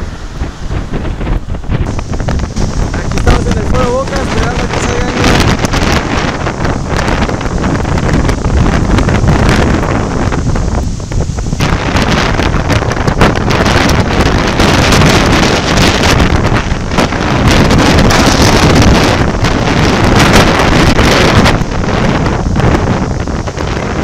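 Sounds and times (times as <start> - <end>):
heavy surf breaking: 0.0 - 24.0
wind buffeting microphone: 0.0 - 24.0.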